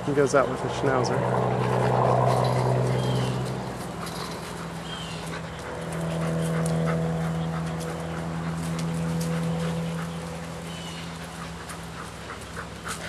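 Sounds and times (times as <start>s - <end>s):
steady low hum: 0.0s - 13.0s
dogs barking: 1.3s - 13.0s.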